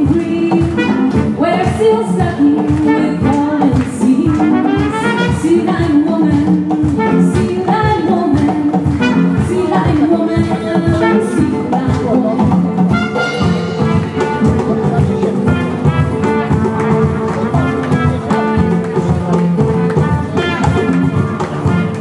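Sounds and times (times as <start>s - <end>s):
acoustic guitar: 0.0s - 22.0s
hand drums: 0.0s - 22.0s
trumpet melody: 0.1s - 6.2s, 6.8s - 8.2s, 8.8s - 10.1s, 10.8s - 11.9s, 12.8s - 22.0s.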